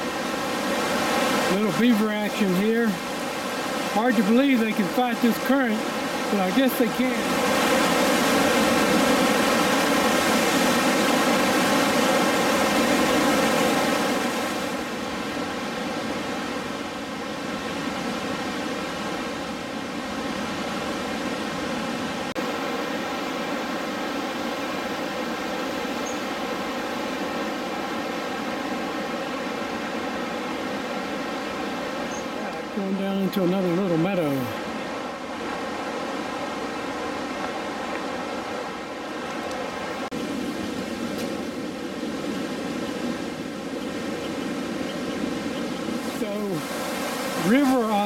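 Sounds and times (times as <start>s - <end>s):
river rapids rushing: 0.0s - 48.0s.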